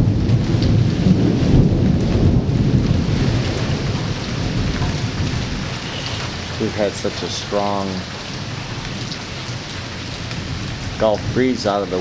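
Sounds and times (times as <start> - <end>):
rolling thunder: 0.0 - 12.0
steady falling rain: 0.0 - 12.0.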